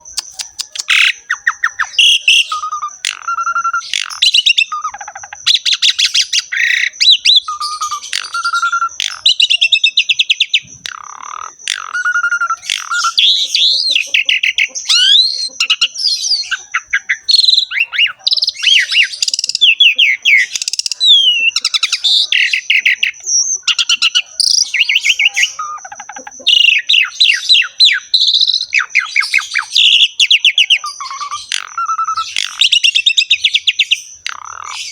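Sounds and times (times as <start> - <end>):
starling singing: 0.0 - 34.9.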